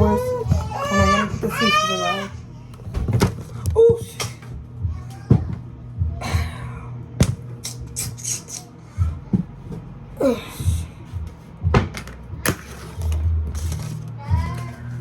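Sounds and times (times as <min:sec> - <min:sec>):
low pulsing bass: 0:00.0 - 0:15.0.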